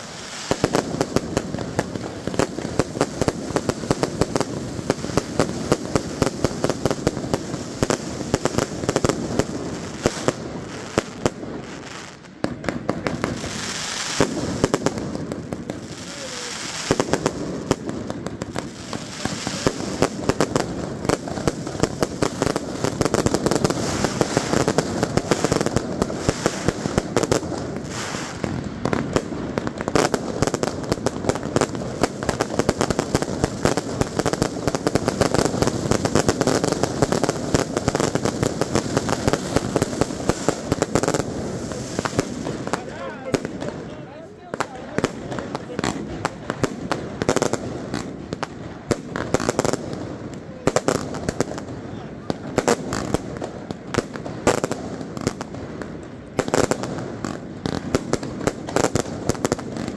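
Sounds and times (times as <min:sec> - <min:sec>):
fireworks and firecracker bangs: 0:00.0 - 0:59.9.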